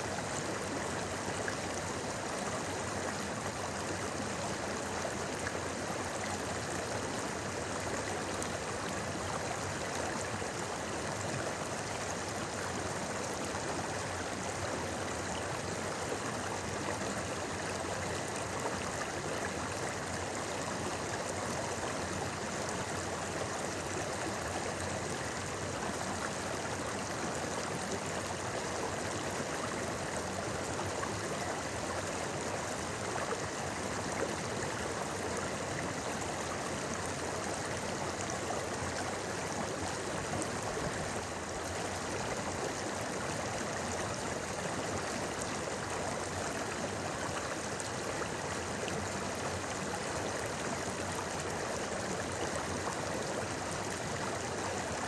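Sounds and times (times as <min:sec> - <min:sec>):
river babbling: 0:00.0 - 0:55.0.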